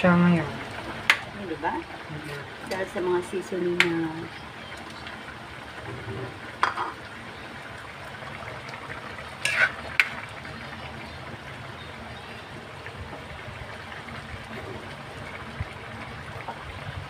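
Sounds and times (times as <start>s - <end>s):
sauce bubbling in a pan: 0.0s - 17.0s.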